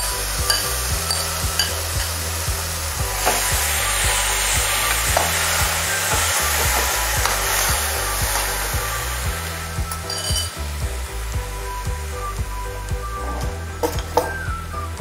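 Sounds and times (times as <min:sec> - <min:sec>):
onion paste sizzling in oil: 0:00.0 - 0:12.9.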